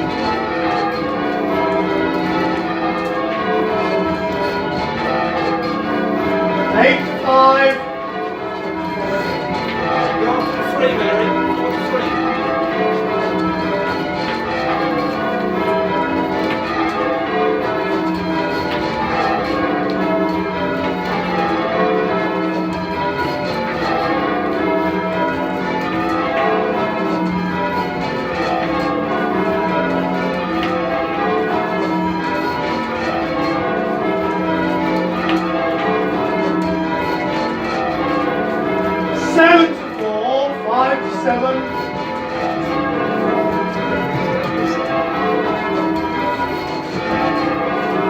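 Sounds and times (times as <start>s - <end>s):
church bells ringing: 0.0s - 48.0s.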